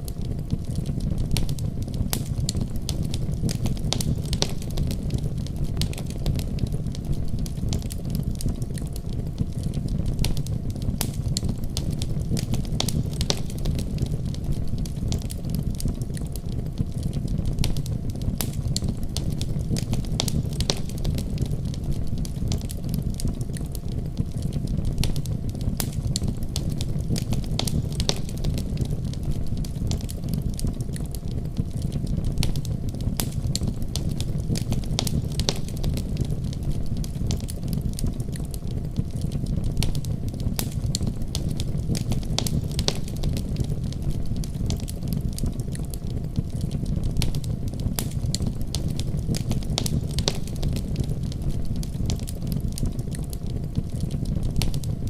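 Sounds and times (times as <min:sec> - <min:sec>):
fire crackling in a fireplace: 0:00.0 - 0:55.0.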